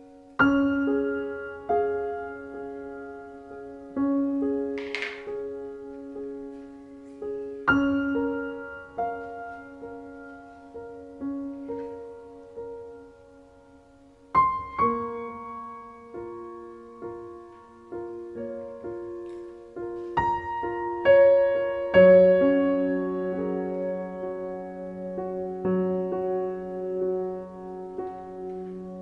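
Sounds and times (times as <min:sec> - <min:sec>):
slow solo piano: 0:00.0 - 0:29.0.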